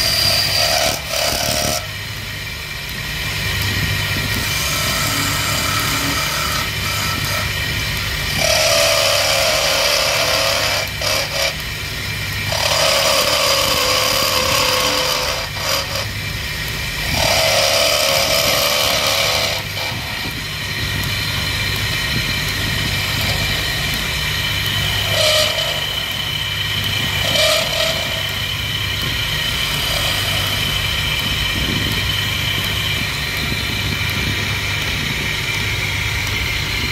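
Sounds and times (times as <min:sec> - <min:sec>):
chisel scraping spinning wood: 0:00.0 - 0:02.1, 0:03.2 - 0:36.9
wood lathe humming: 0:00.0 - 0:36.9.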